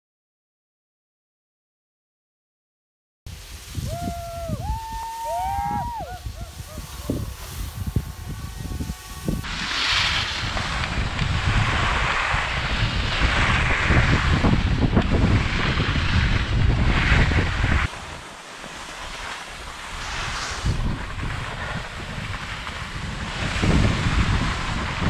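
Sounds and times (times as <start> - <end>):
skis sliding over snow: 3.3 - 25.0
wind buffeting microphone: 3.3 - 25.0.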